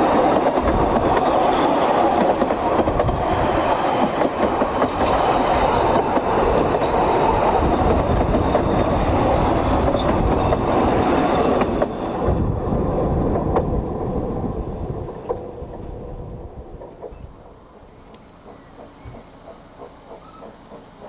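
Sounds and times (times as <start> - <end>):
train wheels rolling on track: 0.0 - 21.0.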